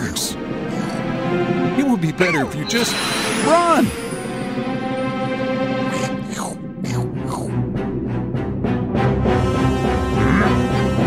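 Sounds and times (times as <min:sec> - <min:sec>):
music with sustained notes: 0:00.0 - 0:11.0.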